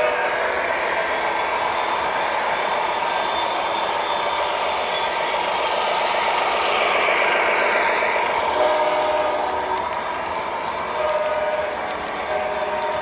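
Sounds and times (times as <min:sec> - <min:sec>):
model train motor hum: 0:00.0 - 0:13.0
model train wheels rattling on track: 0:00.0 - 0:13.0.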